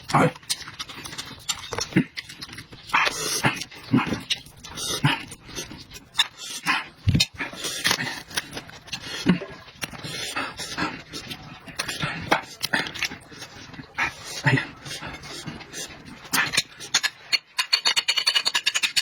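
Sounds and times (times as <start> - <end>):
lip-smacking and mouth clicks: 0.0 - 19.0
wet chewing: 0.0 - 19.0.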